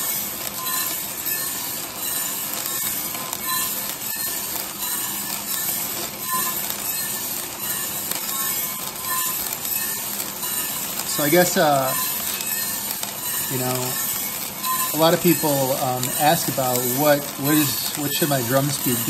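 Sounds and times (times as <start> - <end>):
coffee beans rattling: 0.0 - 19.0
coffee roaster whirring: 0.0 - 19.0.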